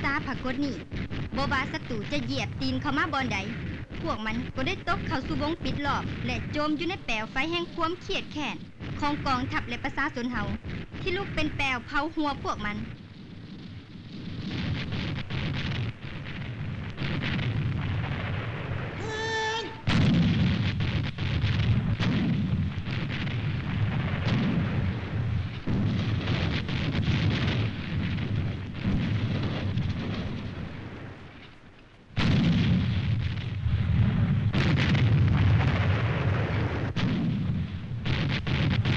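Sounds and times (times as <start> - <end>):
heavy gunfire: 0.0 - 31.5, 32.2 - 38.9
shell explosions: 0.0 - 38.9.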